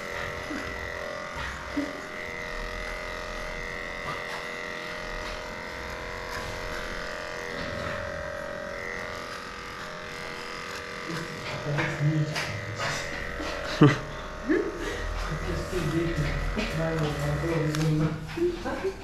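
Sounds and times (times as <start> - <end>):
electric dog clippers whining: 0.0 - 19.0.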